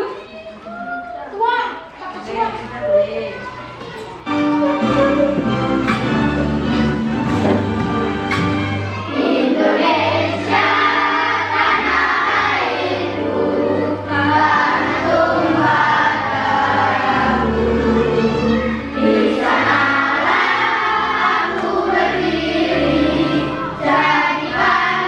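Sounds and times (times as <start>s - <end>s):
choir singing: 4.2s - 25.0s.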